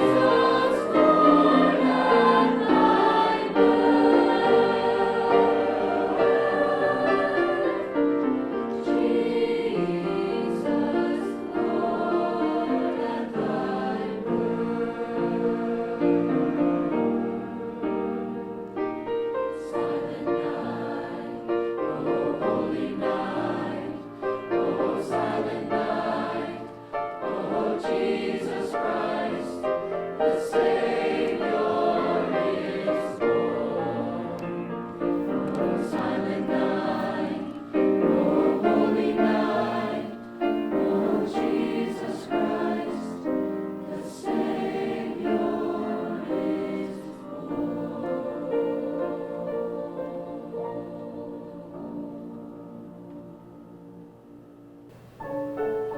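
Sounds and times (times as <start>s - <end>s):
choir singing held notes: 0.0s - 55.9s.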